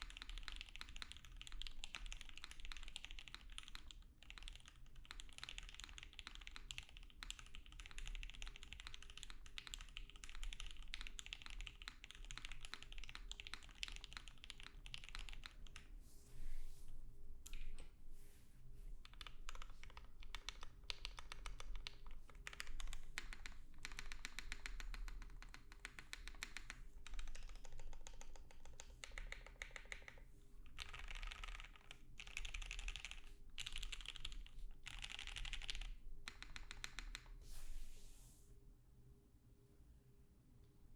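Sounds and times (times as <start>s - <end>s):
mechanical keyboard typing: 0.0s - 15.9s, 19.0s - 37.3s.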